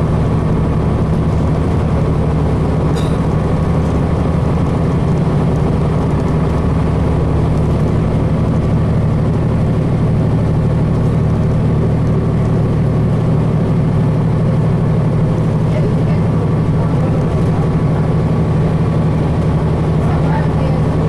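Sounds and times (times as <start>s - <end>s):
diesel bus engine running: 0.0s - 21.0s.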